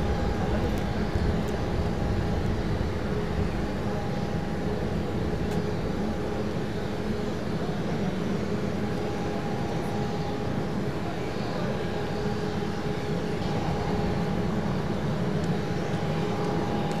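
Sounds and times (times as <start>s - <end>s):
faint jet engine whine: 0.0s - 17.0s
jet airliner rumble: 0.0s - 17.0s.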